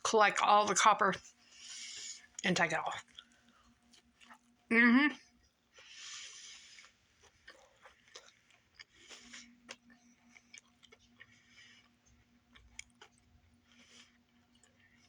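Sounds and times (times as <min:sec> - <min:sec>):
faint low hum: 0:00.0 - 0:15.0
chewing and mouth clicks: 0:01.6 - 0:04.6, 0:05.7 - 0:15.0.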